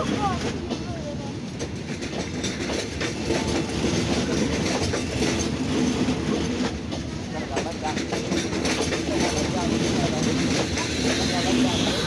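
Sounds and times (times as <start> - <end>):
train wheels rumbling on rails: 0.0 - 12.0
wheels clacking over rail joints: 0.0 - 12.0.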